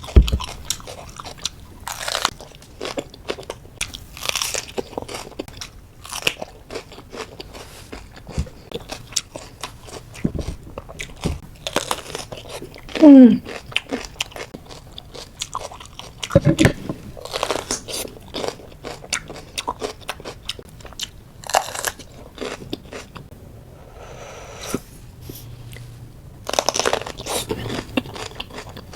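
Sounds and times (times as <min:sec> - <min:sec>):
crunching of crisp pepper: 0:00.0 - 0:23.3, 0:26.4 - 0:28.9.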